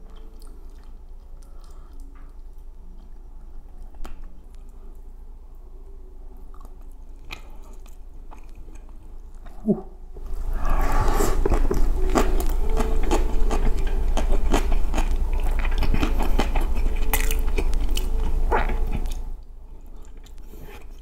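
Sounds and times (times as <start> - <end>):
person chewing food: 0.0 - 5.2, 6.4 - 21.0.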